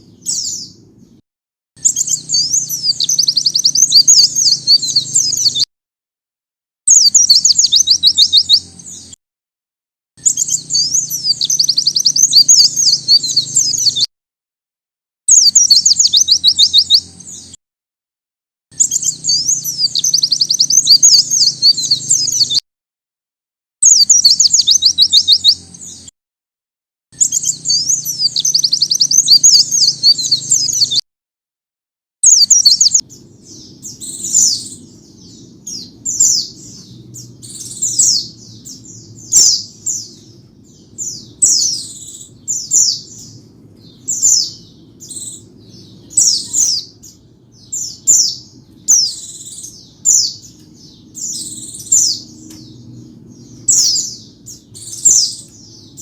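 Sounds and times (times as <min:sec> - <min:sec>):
bird twittering song: 0:00.0 - 0:01.2, 0:01.8 - 0:05.7, 0:06.9 - 0:09.2, 0:10.2 - 0:14.1, 0:15.3 - 0:17.6, 0:18.7 - 0:22.6, 0:23.8 - 0:26.1, 0:27.2 - 0:31.0, 0:32.2 - 0:56.0.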